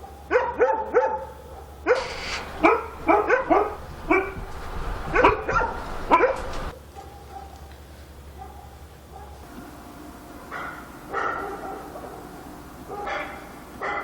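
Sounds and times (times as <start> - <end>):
dog barking: 0.0 - 7.6, 8.3 - 9.5, 10.5 - 14.0.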